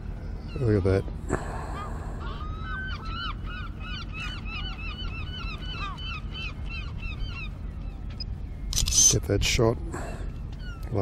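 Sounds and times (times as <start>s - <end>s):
steady low rumble: 0.0s - 11.0s
birds squawking: 0.4s - 8.2s, 10.0s - 11.0s.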